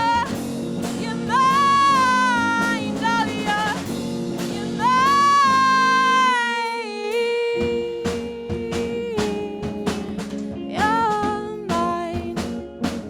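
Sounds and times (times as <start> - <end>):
drum hits at steady beat: 0.0 - 5.9, 7.6 - 13.0.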